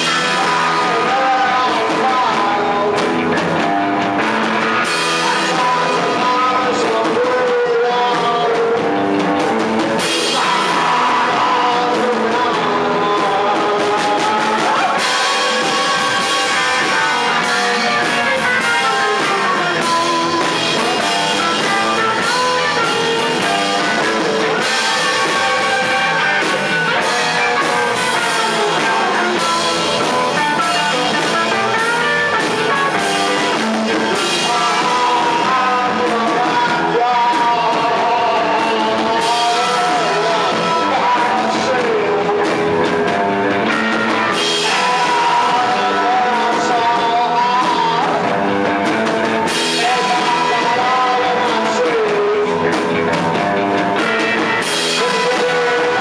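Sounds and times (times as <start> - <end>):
distorted electric guitars: 0.0 - 56.0
drum kit: 0.0 - 56.0
person singing: 0.0 - 56.0.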